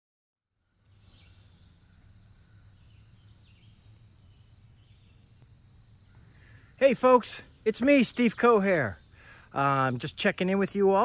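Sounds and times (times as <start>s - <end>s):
distant birds singing: 0.5s - 11.0s.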